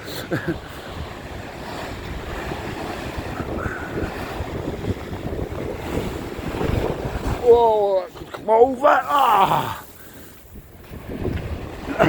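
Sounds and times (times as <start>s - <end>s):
sea waves surging: 0.0s - 12.0s
wind buffeting microphone: 0.0s - 12.0s.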